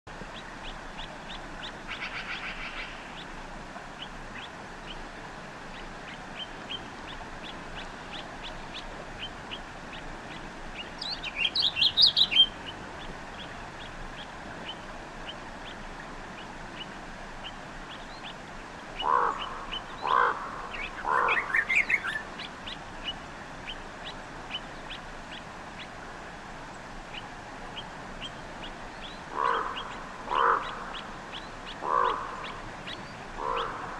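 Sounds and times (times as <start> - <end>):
rapid bird song: 0.1 - 33.9
lower fuller bird calls: 0.2 - 26.1, 26.7 - 33.9.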